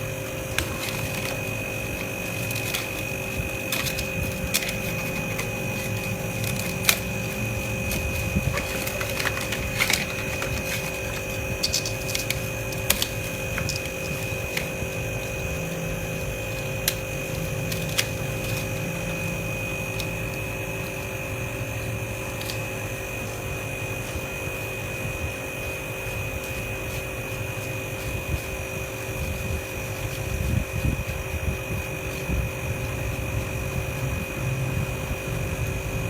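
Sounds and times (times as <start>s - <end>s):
high whine: 0.0s - 36.0s
machine hum: 0.0s - 36.0s.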